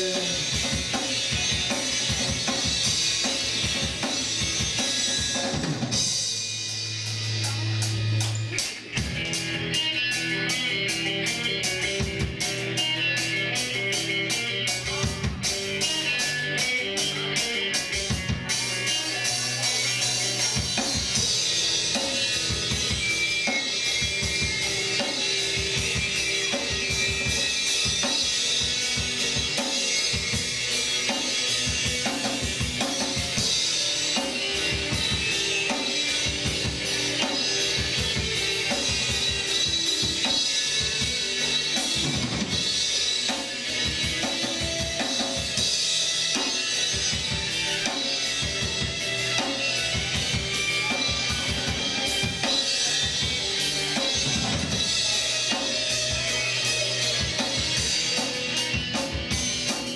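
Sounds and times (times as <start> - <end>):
drum kit beat: 0.0 - 59.9
electric guitar: 0.0 - 59.9
rock band playing: 0.0 - 59.9.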